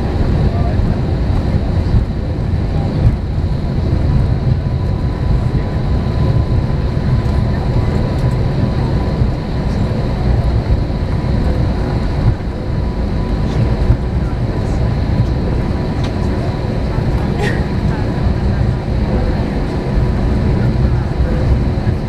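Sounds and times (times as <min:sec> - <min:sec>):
aircraft cabin engine rumble: 0:00.0 - 0:22.0
faint steady whine: 0:00.0 - 0:22.0.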